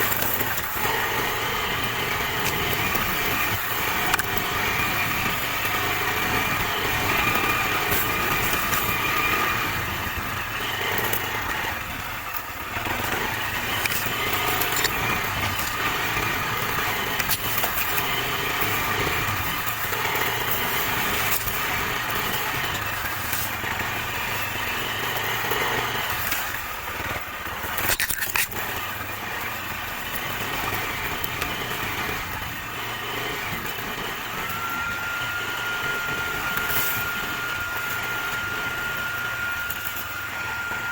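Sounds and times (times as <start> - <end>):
motorcycle engine revving: 0.0 - 38.6.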